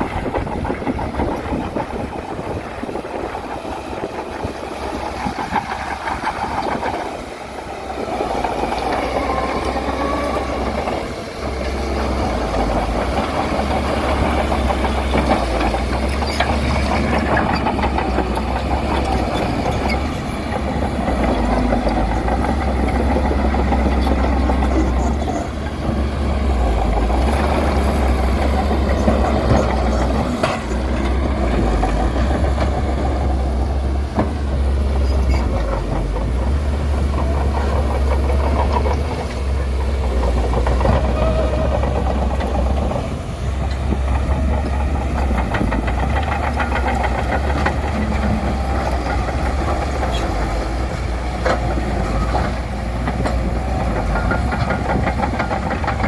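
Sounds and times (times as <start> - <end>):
bulldozer diesel engine: 0.0 - 56.0
constant rattle: 0.0 - 56.0.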